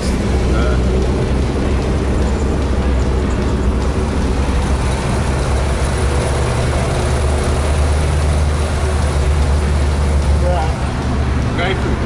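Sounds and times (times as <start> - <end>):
car engine running steadily: 0.0 - 12.0
road noise: 0.0 - 12.0.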